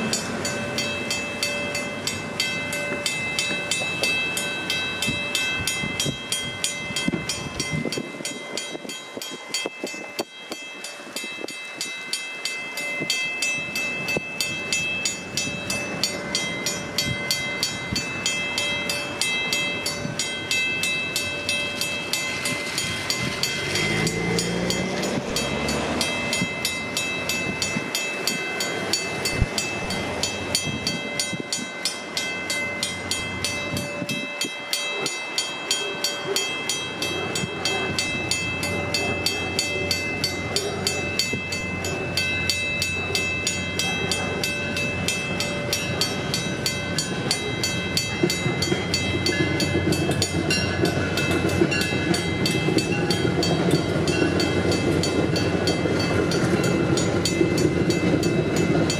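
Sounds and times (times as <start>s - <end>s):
railroad crossing bells clanging: 0.0s - 58.9s.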